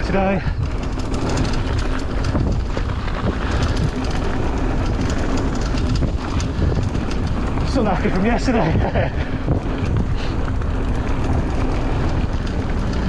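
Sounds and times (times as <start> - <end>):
bike clicks and rattles: 0.0 - 13.0
bike tyre rumble on dirt: 0.0 - 13.0
wind buffeting microphone: 0.0 - 13.0.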